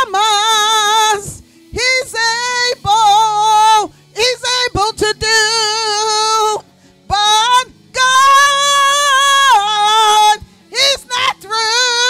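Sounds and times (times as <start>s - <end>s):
woman singing gospel into microphone: 0.0s - 12.0s.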